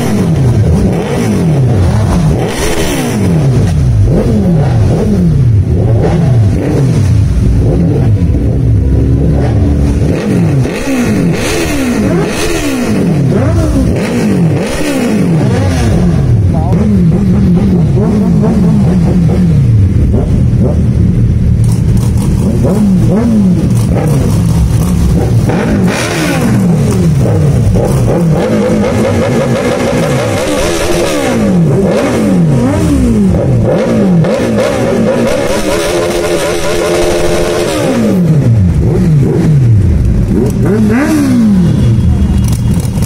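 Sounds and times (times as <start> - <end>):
motorbike engines revving: 0.0 - 43.0.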